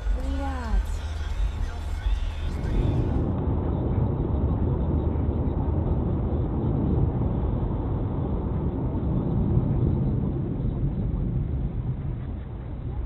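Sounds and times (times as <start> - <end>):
vehicle road and engine rumble: 0.0 - 13.0.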